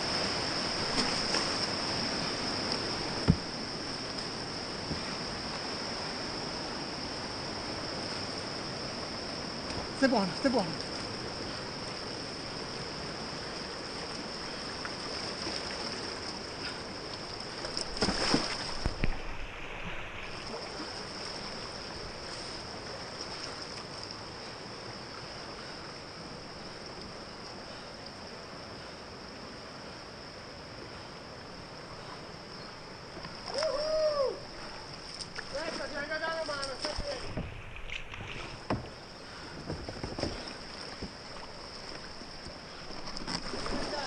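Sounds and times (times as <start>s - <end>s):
paddle splashes: 0.0s - 6.3s, 7.0s - 28.0s, 31.9s - 44.0s
river water rushing: 0.0s - 44.0s.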